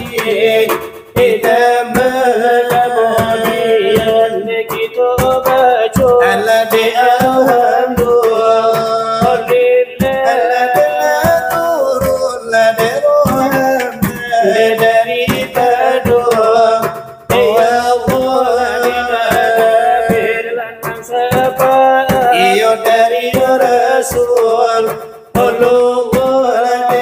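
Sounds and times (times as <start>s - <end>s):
fingers beating on brass trays: 0.0s - 27.0s
men chanting devotional song: 0.0s - 27.0s.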